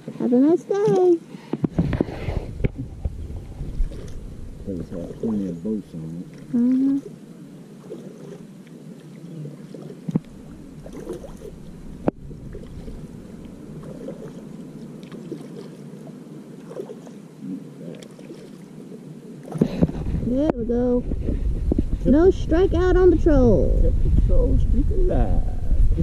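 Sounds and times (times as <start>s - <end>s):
water lapping against kayak hull: 0.0s - 25.9s.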